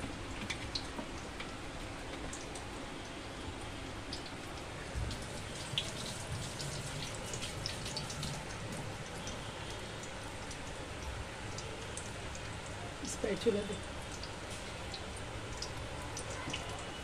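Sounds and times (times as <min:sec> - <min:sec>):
oil sizzling and crackling: 0:00.0 - 0:17.0.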